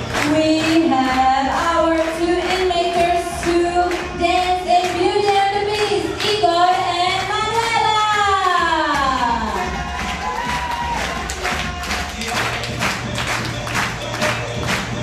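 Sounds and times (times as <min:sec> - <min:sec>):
song sung over a beat: 0:00.0 - 0:15.0.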